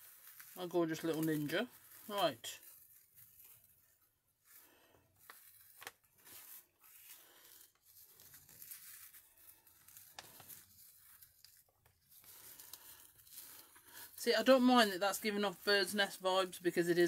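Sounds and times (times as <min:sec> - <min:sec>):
fibre rustling and crinkling: 0:00.0 - 0:17.0.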